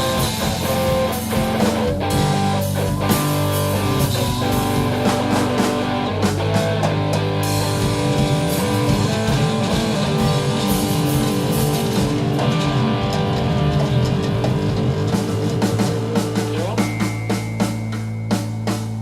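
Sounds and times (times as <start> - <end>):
electric guitar: 0.0 - 17.7
live rock band: 0.0 - 19.0.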